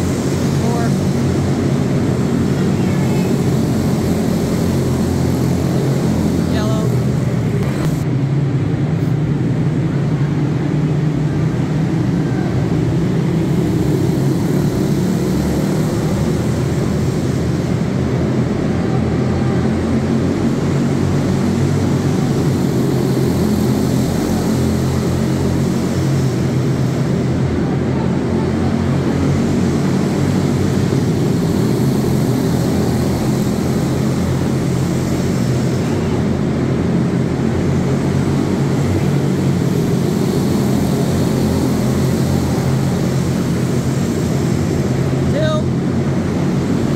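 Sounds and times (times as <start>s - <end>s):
small race car engines buzzing: 0.0s - 46.9s.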